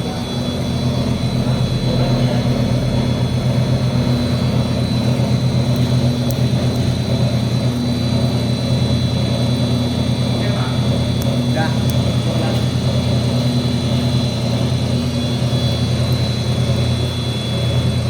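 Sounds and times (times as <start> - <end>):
extruder motor hum: 0.0 - 18.0
faint high whine: 0.0 - 18.0.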